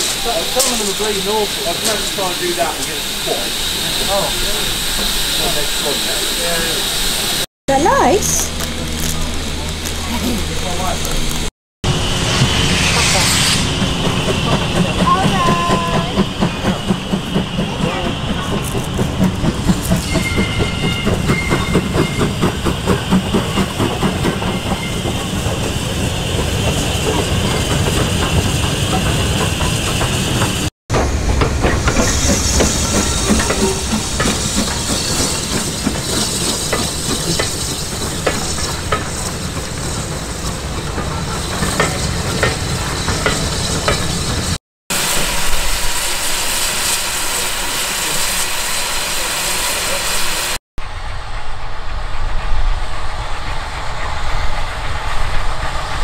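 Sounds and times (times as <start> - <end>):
rhythmic train clatter: 0.0 - 56.0
steam hissing: 0.0 - 56.0
steam train running: 0.0 - 56.0.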